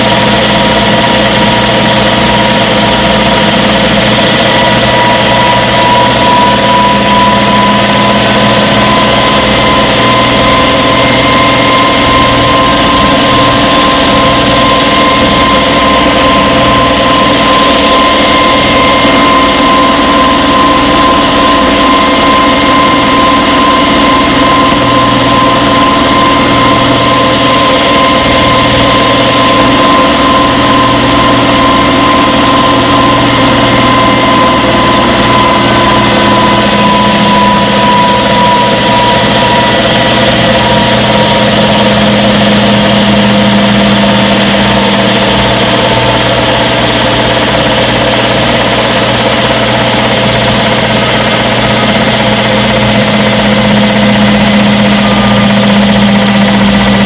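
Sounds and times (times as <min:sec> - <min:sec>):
high motor whine: 0:00.0 - 0:57.0
lower hum: 0:00.0 - 0:57.0
washing machine running: 0:00.0 - 0:57.0.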